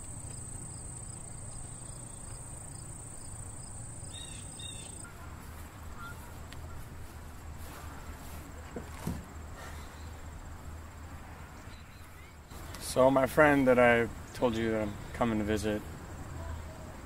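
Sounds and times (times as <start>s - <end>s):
faint rapid insect chirps: 0.0s - 8.2s, 9.3s - 17.0s
low rumble of background noise: 0.0s - 17.0s.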